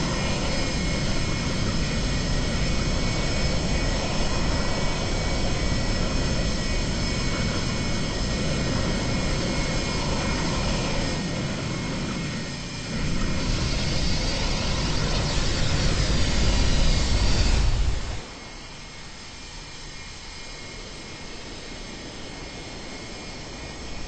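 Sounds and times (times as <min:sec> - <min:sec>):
jet engines running with whine: 0:00.0 - 0:24.0.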